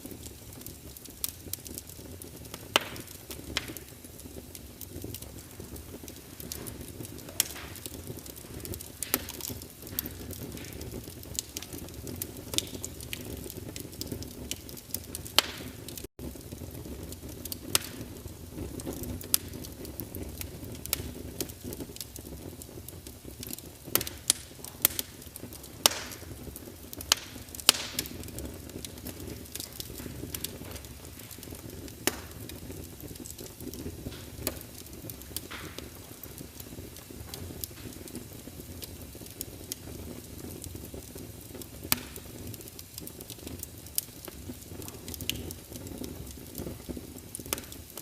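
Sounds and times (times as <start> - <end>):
burning logs crackling and popping: 0.0 - 48.0
fire flames rushing: 0.0 - 48.0.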